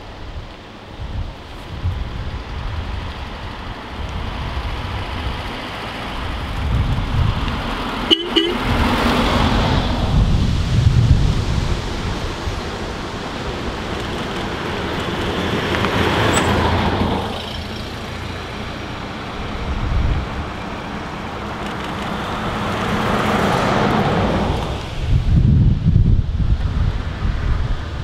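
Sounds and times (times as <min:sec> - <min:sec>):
engine approaching: 0:01.7 - 0:28.0
cars driving past: 0:02.4 - 0:25.4.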